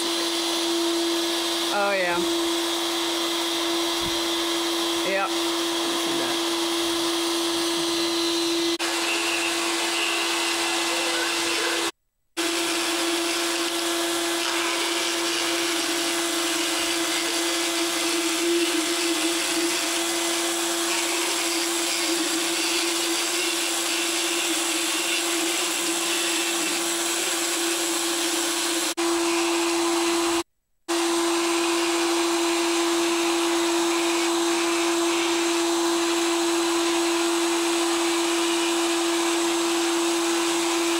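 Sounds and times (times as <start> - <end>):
dental float whining and grinding: 0.0 - 40.9.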